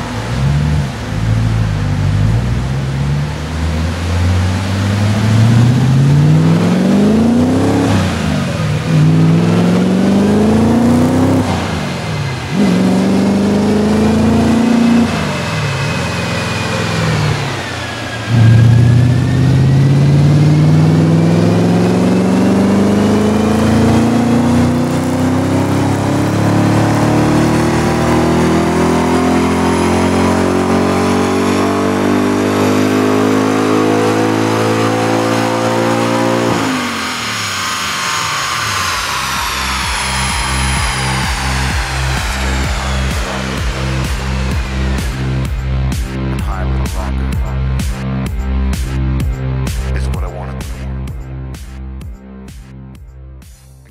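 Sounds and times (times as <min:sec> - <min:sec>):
car engine accelerating hard: 0:00.0 - 0:53.9.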